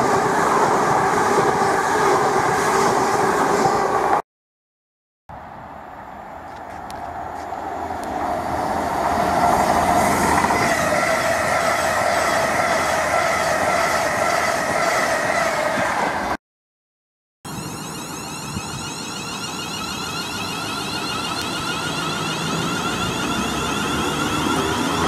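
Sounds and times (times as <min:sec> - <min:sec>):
train wheels rushing on rails: 0:00.0 - 0:04.2, 0:06.5 - 0:16.4, 0:17.5 - 0:25.0
train whine: 0:00.0 - 0:04.2, 0:05.3 - 0:16.4, 0:17.5 - 0:25.0.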